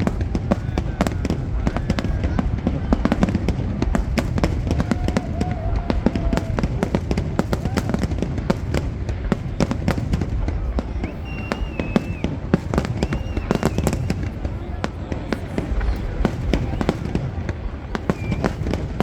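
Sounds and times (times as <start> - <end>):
fireworks crackles and bangs: 0.0 - 19.0.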